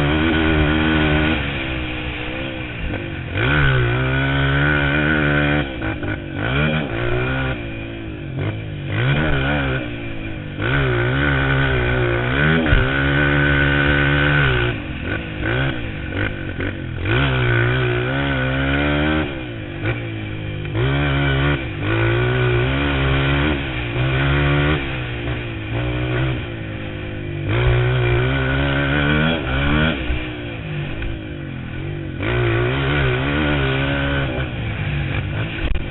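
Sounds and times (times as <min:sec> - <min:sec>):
motorbike engine revving hard: 0:00.0 - 0:35.9.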